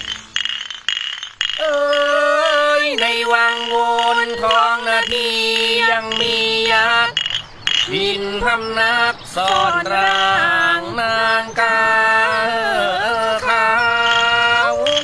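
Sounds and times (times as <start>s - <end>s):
low drone: 0.0s - 15.0s
voice singing long sliding notes: 1.6s - 7.2s, 7.8s - 15.0s.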